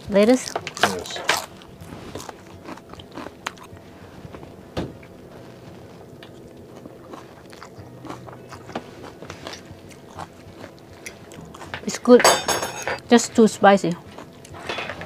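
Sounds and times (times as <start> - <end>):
faint hum: 0.0 - 15.0
person chewing food: 0.2 - 12.0, 13.9 - 15.0.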